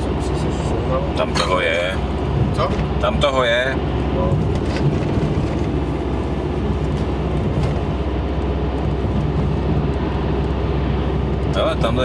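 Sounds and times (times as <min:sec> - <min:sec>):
car road noise from inside: 0:00.0 - 0:12.0.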